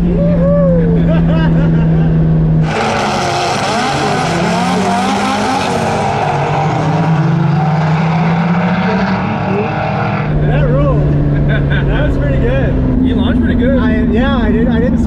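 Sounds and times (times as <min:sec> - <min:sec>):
car engine accelerating at full throttle: 0:00.0 - 0:15.0.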